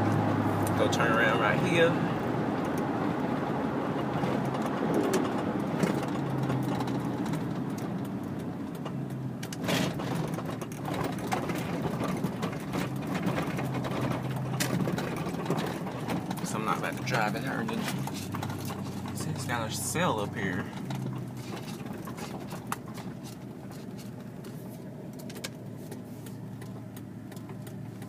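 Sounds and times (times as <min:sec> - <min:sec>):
exhaust drone: 0:00.0 - 0:28.0.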